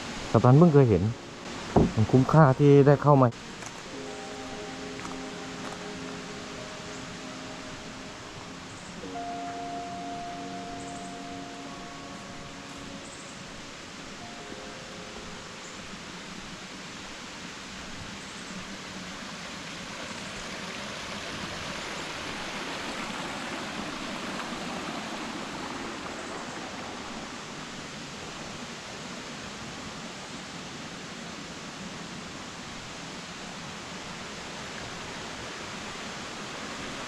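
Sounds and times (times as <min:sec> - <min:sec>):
waterfall rushing water: 0:00.0 - 0:37.0.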